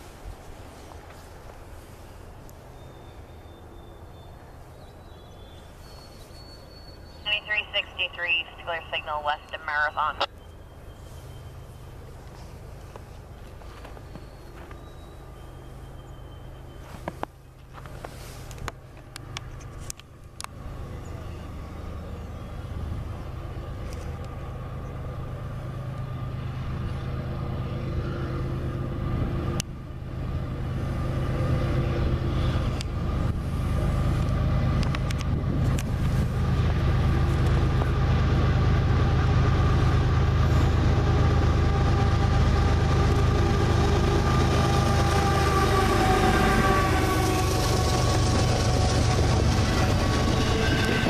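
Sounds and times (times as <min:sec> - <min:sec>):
diesel locomotive engine drone: 0:00.0 - 0:51.0
freight train rumble: 0:00.0 - 0:51.0.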